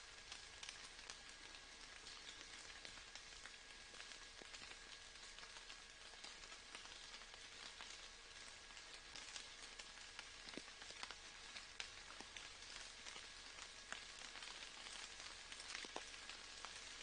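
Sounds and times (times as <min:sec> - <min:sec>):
rain hiss and drop ticks: 0:00.0 - 0:17.0.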